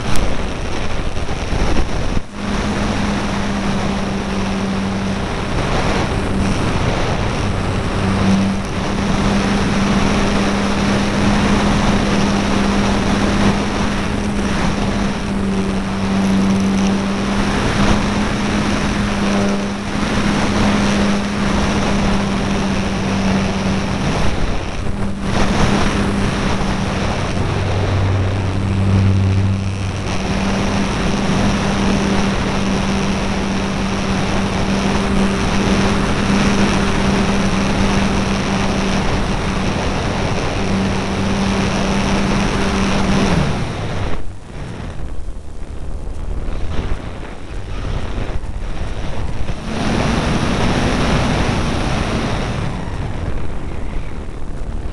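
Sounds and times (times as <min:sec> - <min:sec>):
electric motor and propeller: 0:00.0 - 0:54.9
wind noise on microphone: 0:00.0 - 0:54.9.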